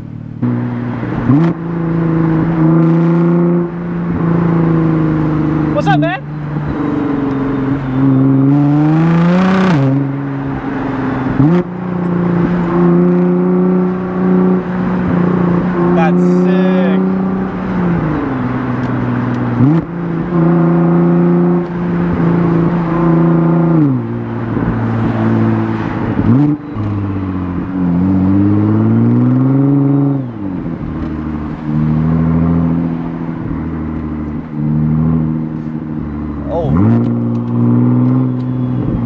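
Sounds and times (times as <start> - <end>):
car engine revving through gear changes: 0.0 - 39.0.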